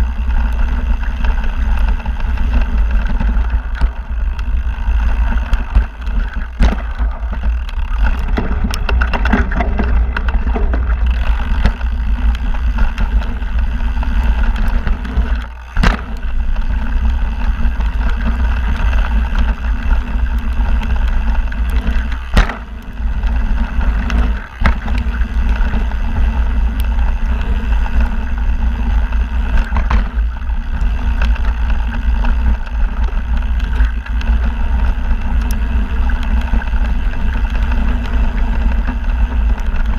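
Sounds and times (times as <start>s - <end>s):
bike rattling: 0.0s - 39.9s
tyres on dirt: 0.0s - 39.9s.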